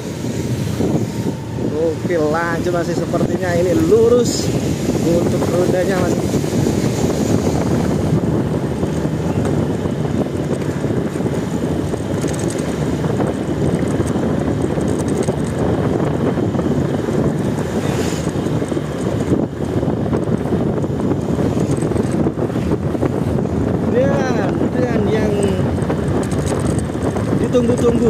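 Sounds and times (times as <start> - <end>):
traffic din: 0.0 - 28.0
wind rumble on microphone: 0.0 - 28.0.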